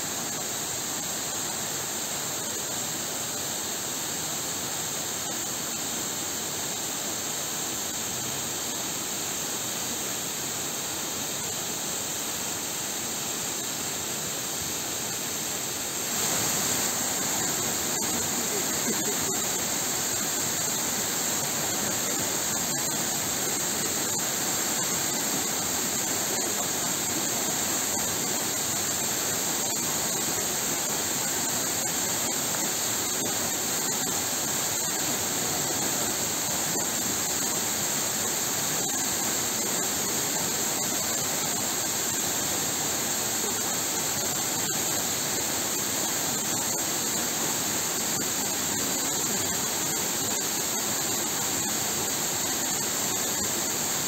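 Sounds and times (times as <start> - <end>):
waterfall rushing into a pool: 0.0 - 54.0.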